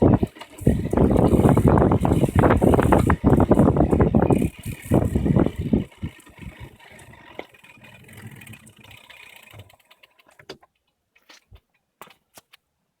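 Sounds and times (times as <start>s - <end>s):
electric bike motor rumbling: 0.0s - 10.7s.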